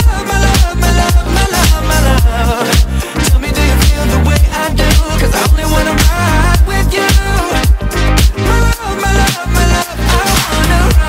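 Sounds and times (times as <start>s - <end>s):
upbeat song with heavy bass: 0.0s - 11.0s.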